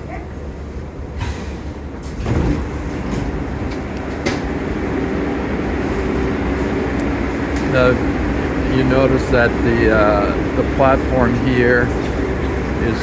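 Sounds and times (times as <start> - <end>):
station platform rumble and hum: 0.0 - 13.0
subway doors sliding open: 0.0 - 13.0.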